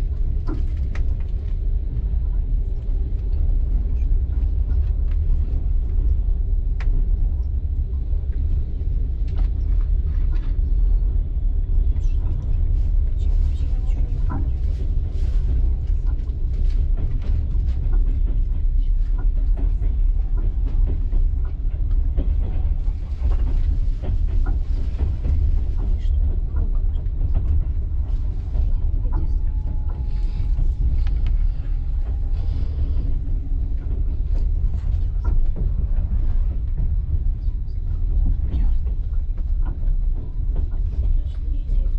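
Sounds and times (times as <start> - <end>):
train low rumble: 0.0 - 41.9.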